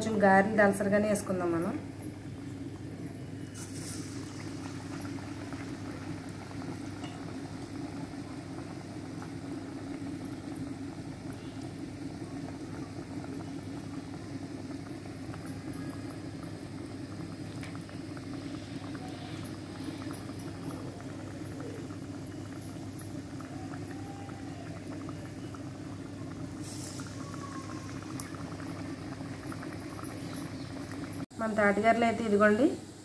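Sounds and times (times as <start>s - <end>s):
deep-frying sizzle with crackles: 0.0s - 33.0s.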